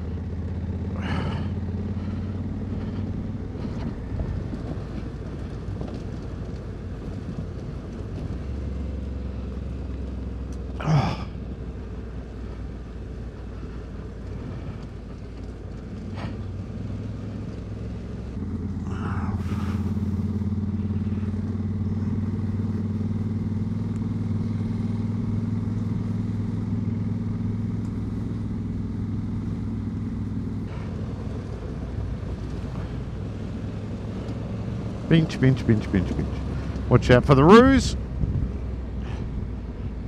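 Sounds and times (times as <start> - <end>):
motorcycle engine running: 0.0 - 40.0
wind and tyre noise: 0.0 - 40.0.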